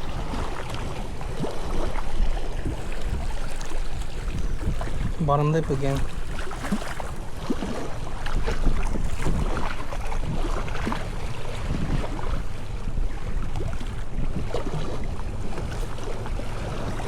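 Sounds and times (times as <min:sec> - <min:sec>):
water lapping and splashing: 0:00.0 - 0:17.0
wind buffeting microphone: 0:00.0 - 0:17.0.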